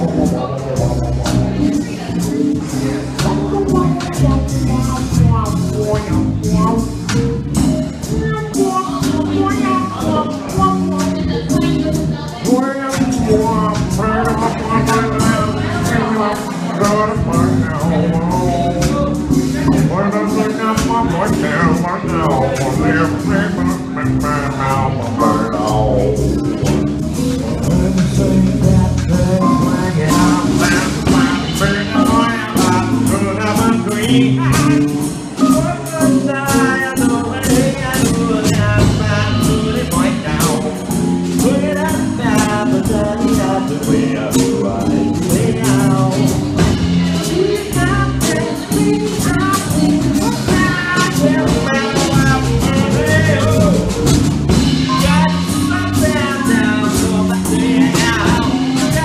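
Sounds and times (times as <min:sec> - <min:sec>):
bass: 0:00.0 - 0:59.0
drum kit with cymbal strokes: 0:00.0 - 0:59.0
stage keyboard: 0:00.0 - 0:59.0.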